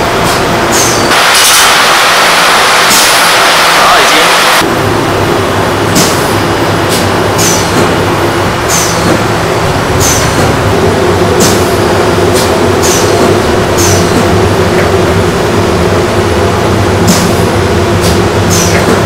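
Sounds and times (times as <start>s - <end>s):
workshop machinery hum: 0.0s - 19.0s.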